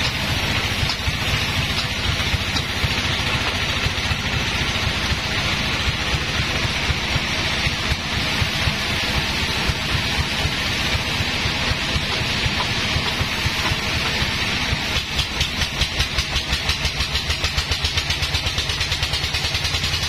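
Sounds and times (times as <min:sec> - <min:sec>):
bandsaw machinery running: 0:00.0 - 0:20.0.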